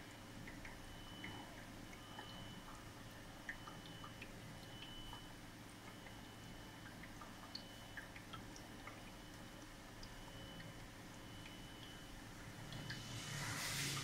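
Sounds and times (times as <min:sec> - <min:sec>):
aquarium filter bubbling: 0:00.0 - 0:14.0
steady low hum: 0:00.0 - 0:14.0.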